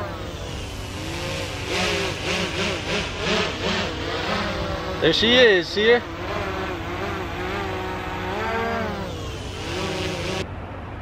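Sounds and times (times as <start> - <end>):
drone propellers buzzing whine: 0.0 - 10.5.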